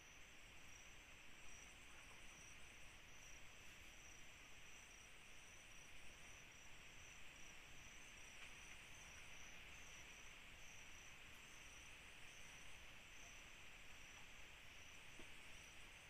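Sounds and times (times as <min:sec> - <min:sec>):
crickets trilling: 0:00.0 - 0:16.0
high hiss of insects: 0:00.0 - 0:16.0.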